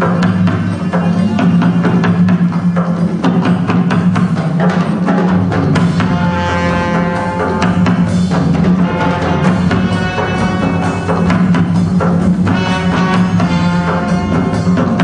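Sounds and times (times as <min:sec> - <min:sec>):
drums struck in fast rhythm: 0:00.0 - 0:15.0.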